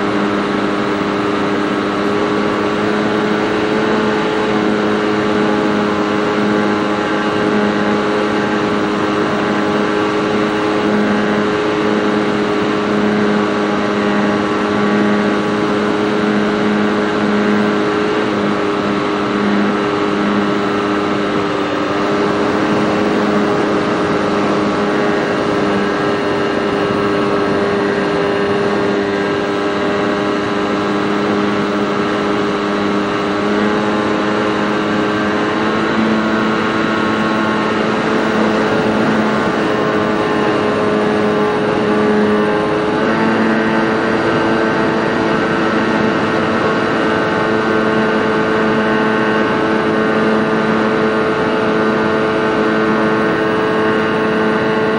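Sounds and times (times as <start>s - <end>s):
model airplane motor and propeller: 0.0s - 54.9s
rushing wind noise: 0.0s - 54.9s.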